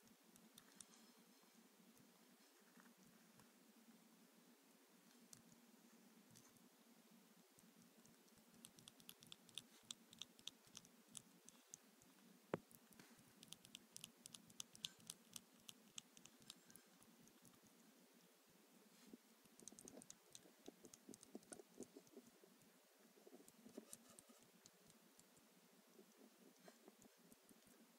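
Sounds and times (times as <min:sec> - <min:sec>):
hamster nibbling and scrabbling: 0:00.0 - 0:01.1, 0:05.0 - 0:18.3, 0:18.9 - 0:27.9.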